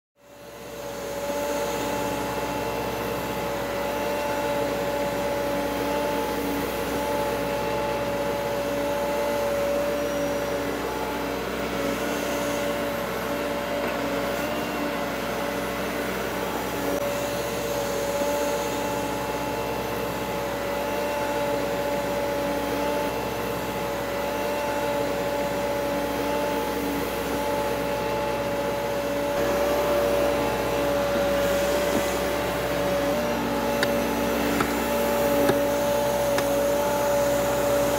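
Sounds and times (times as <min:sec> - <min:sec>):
drone motors whining: 0:00.2 - 0:37.9.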